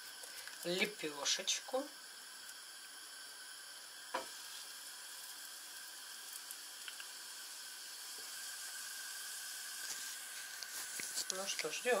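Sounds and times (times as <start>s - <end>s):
dough sizzling in oil: 0.0s - 12.0s.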